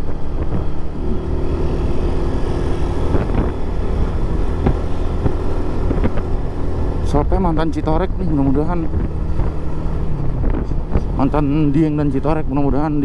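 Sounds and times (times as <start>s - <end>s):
motorcycle engine running: 0.0s - 12.1s
wind noise on microphone: 0.0s - 13.0s.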